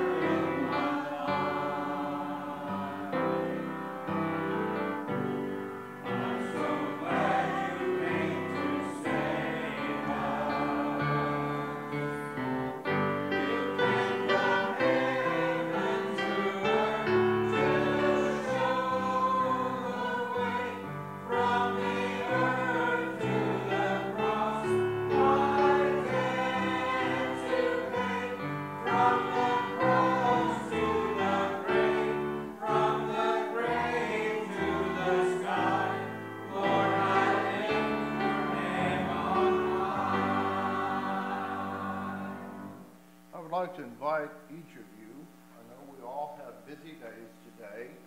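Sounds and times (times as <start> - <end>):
men singing a hymn: 0.0 - 5.4, 6.0 - 42.9
musical accompaniment: 0.0 - 43.7.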